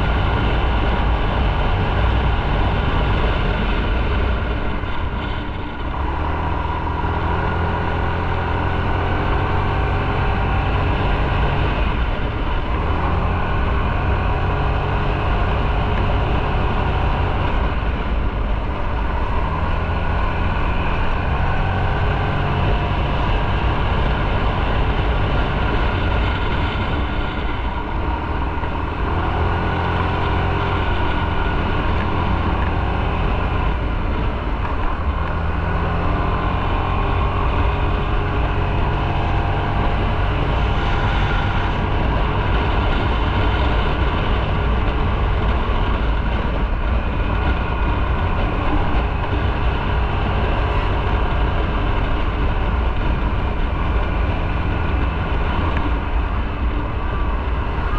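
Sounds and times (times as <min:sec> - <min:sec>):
motorcycle engine running: 0:00.0 - 0:57.9
wind and road noise: 0:00.0 - 0:57.9.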